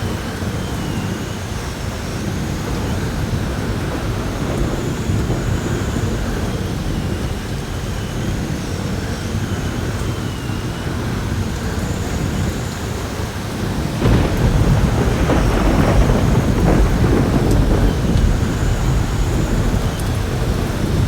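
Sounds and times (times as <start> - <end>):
heavy rain pouring: 0.0 - 21.0
wind whistling: 0.0 - 21.0
thunder crack and rumble: 0.1 - 10.2, 10.9 - 21.0.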